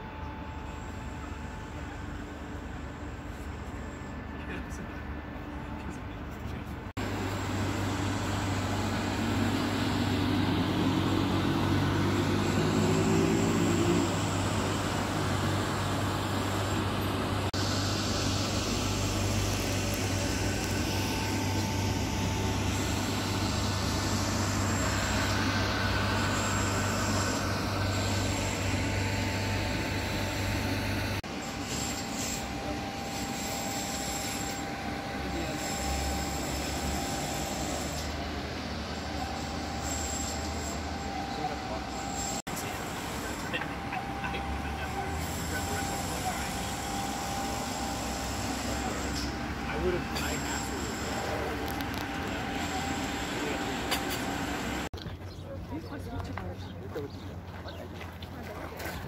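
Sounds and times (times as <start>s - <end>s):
vehicle engine humming: 0.0s - 58.4s
road or rail noise: 0.0s - 59.0s.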